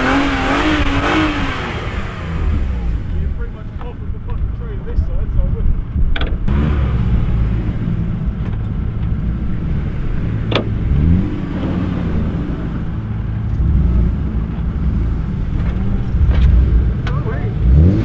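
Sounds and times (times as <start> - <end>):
car engine revving: 0.0 - 4.3, 6.4 - 18.0.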